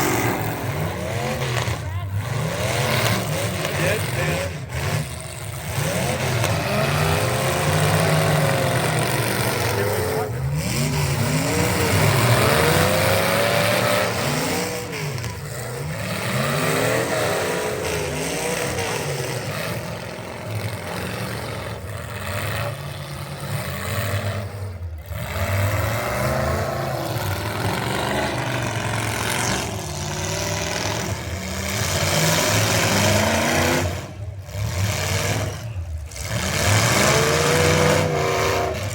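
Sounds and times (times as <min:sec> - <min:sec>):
racing truck engines revving: 0:00.0 - 0:38.9
road and mechanical noise: 0:00.0 - 0:38.9.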